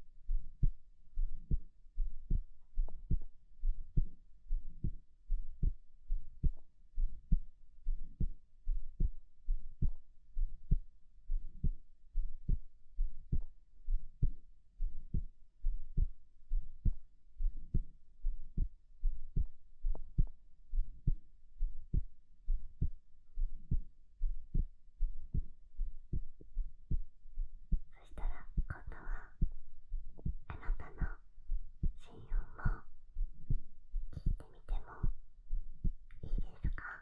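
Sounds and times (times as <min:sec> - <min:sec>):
heartbeat thumps: 0:00.2 - 0:37.0.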